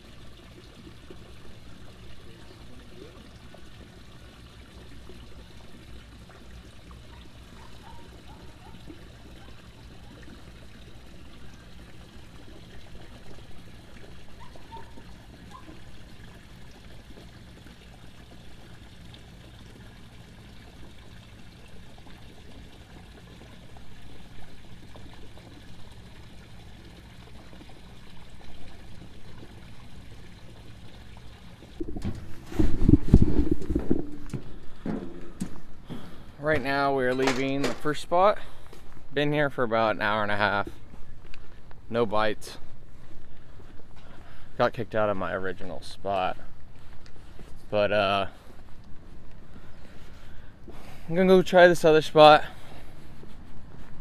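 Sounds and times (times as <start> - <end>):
water lapping against dock: 0.0 - 54.0.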